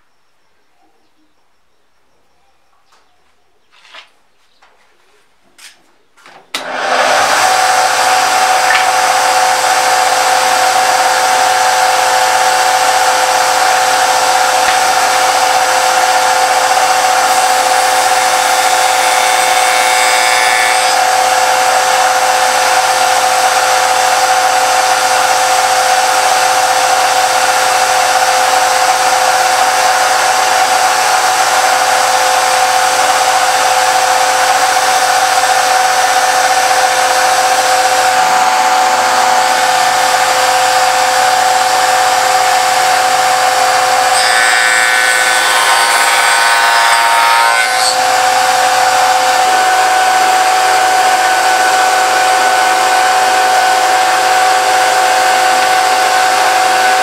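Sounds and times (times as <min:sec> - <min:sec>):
faint wood cutting: 0:06.6 - 0:57.0.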